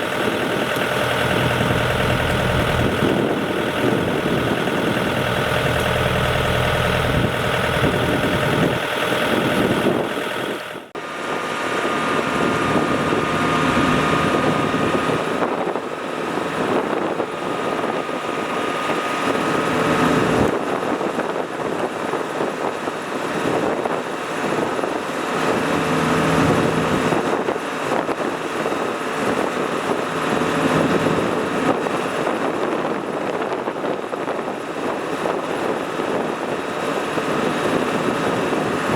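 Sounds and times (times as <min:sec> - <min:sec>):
diesel engines droning: 0:00.0 - 0:38.9.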